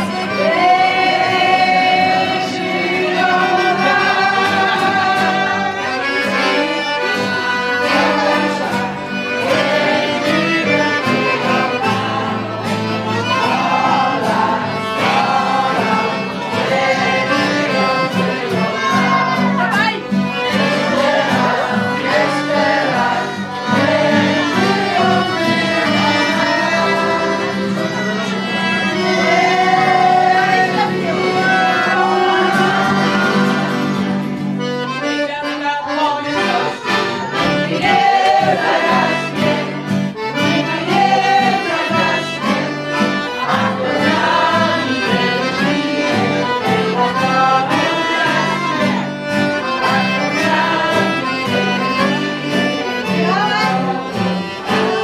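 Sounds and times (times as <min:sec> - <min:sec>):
live band music: 0:00.0 - 0:55.0
voices singing along: 0:00.0 - 0:55.0.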